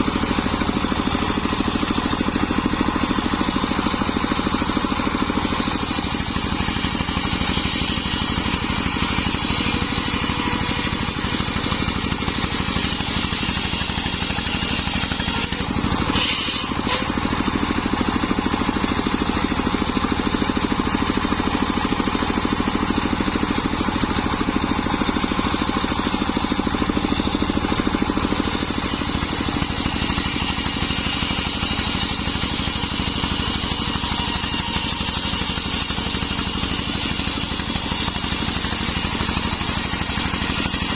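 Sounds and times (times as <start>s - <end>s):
circular saw engine running: 0.0s - 40.9s.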